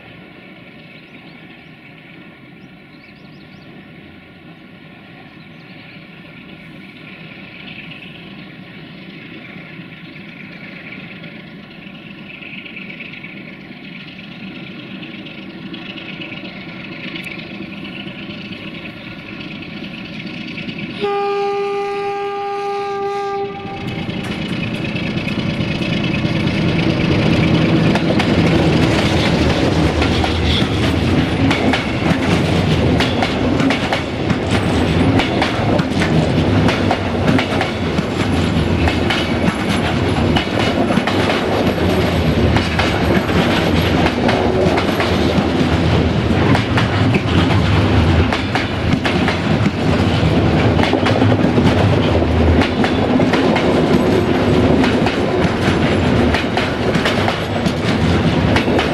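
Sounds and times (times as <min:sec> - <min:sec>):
diesel locomotive passing: 0:00.0 - 0:58.9
freight wagons rumbling: 0:05.5 - 0:58.9
wheels clacking over rail joints: 0:06.2 - 0:58.9.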